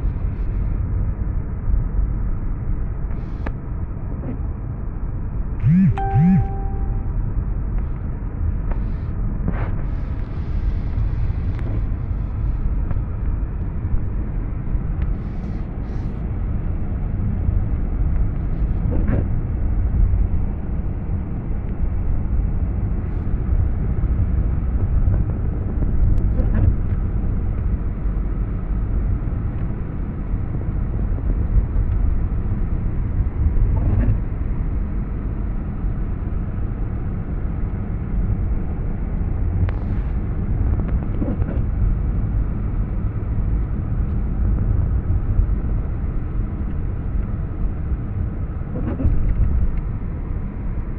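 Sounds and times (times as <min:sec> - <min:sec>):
car engine and tyres rumble: 0:06.7 - 0:50.9.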